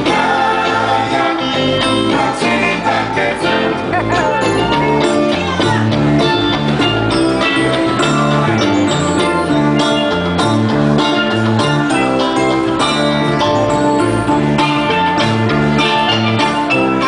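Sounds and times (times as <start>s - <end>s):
bass: 0.0s - 17.0s
drums: 0.0s - 17.0s
electric guitar: 0.0s - 17.0s.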